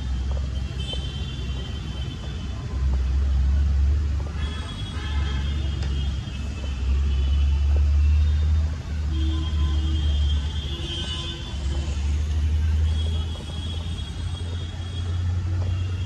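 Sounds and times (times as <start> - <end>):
city traffic rumble: 0.0 - 16.0
faint voices: 1.6 - 16.0.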